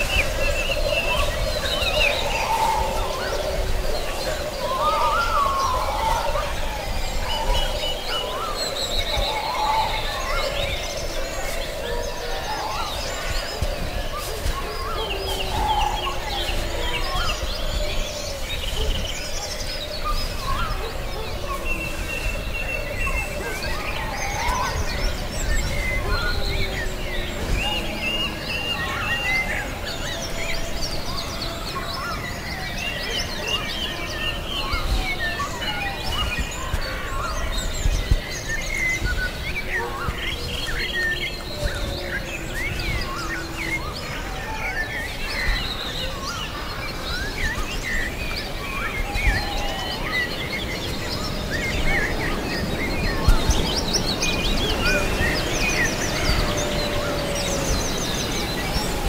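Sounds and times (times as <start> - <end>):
birds chirping: 0.0 - 59.0
drawn-out low bird calls: 0.0 - 59.0.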